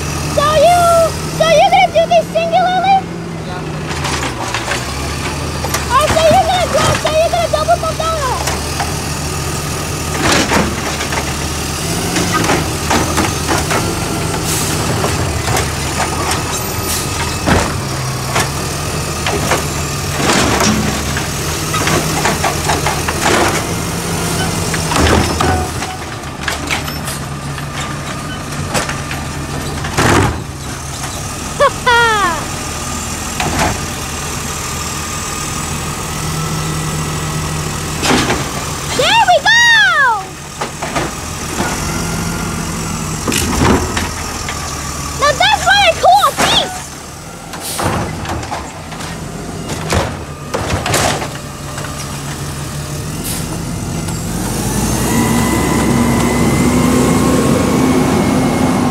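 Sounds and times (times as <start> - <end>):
garbage truck engine running: 0.0 - 58.9
trash cart clanking and banging: 0.0 - 58.9.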